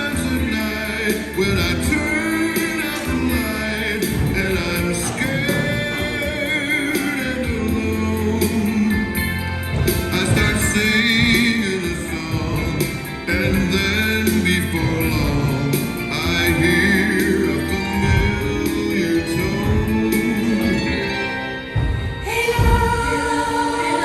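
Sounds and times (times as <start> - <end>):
voices singing: 0.0 - 21.4, 22.1 - 24.0
band backing music: 0.0 - 24.0.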